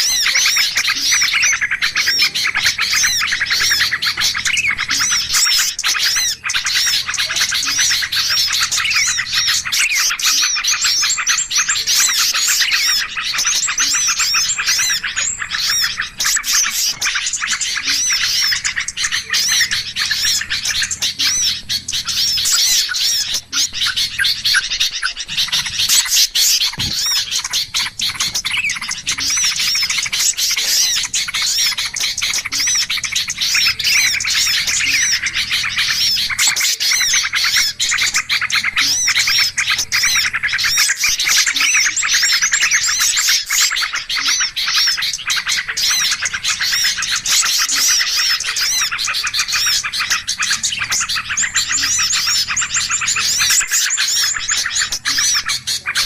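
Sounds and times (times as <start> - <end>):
songbirds chirping and calling: 0.0 - 56.0.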